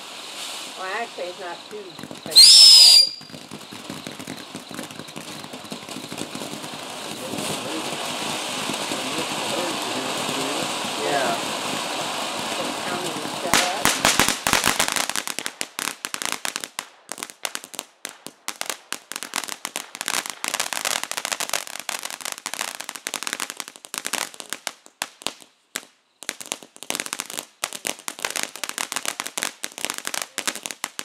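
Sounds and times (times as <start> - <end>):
crackling firework fountain: 0.0 - 31.0.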